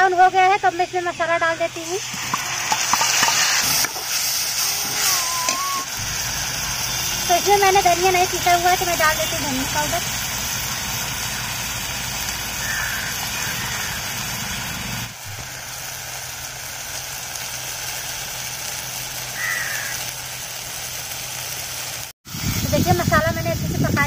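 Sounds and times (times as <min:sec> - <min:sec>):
paste sizzling in oil: 0:01.3 - 0:23.6.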